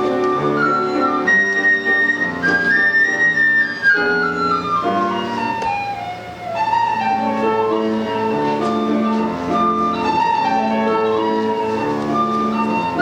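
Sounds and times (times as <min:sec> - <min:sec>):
end-blown flute melody: 0:00.0 - 0:13.0
piano chords: 0:00.0 - 0:13.0.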